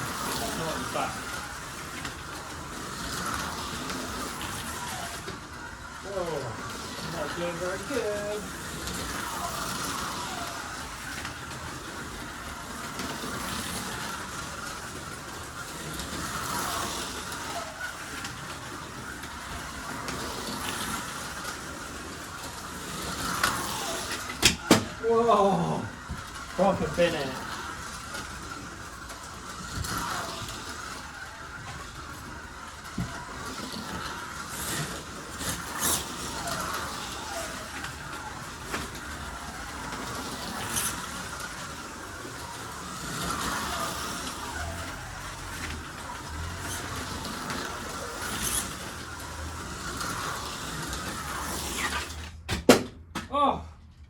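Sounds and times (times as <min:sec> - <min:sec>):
slot car electric motors whining: 0:00.0 - 0:52.5.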